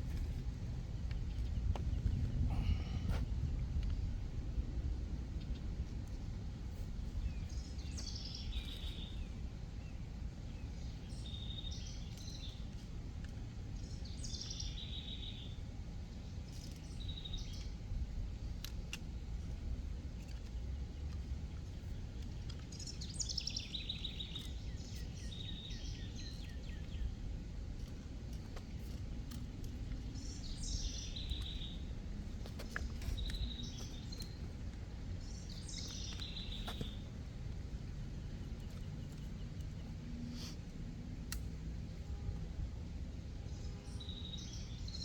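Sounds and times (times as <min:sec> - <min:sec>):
songbird singing: 0:00.0 - 0:04.2, 0:05.3 - 0:45.0
steady low rumble: 0:00.0 - 0:45.0.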